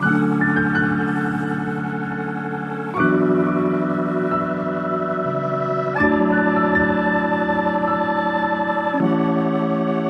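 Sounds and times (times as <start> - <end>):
sustained organ-like chord: 0.0 - 10.0.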